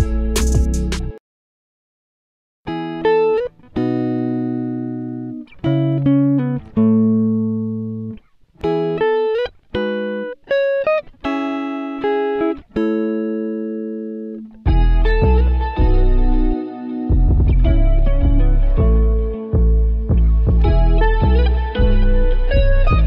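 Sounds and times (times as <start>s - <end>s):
guitar music: 0.0s - 1.2s, 2.7s - 23.0s.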